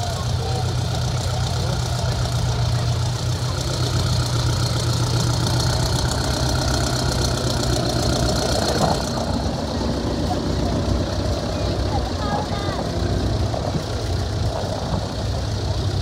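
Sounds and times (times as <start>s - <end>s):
tractor engines at low revs: 0.0s - 16.0s.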